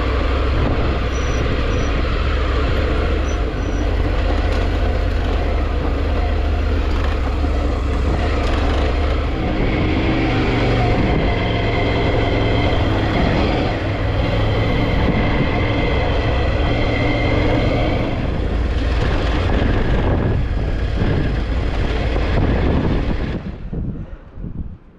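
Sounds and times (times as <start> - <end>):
motorcycle engine running: 0.0 - 23.6
rushing road noise: 0.0 - 24.9.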